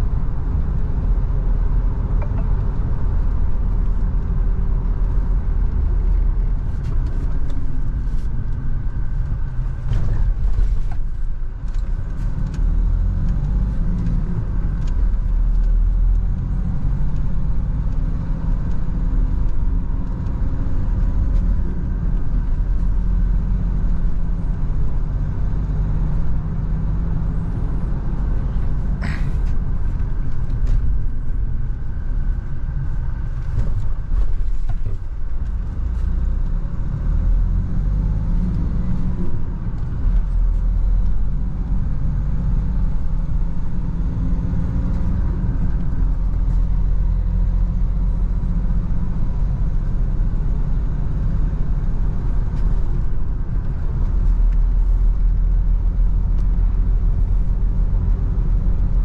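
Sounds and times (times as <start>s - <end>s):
engine drone inside car: 0.0s - 59.0s
road and tyre rumble: 0.0s - 59.0s.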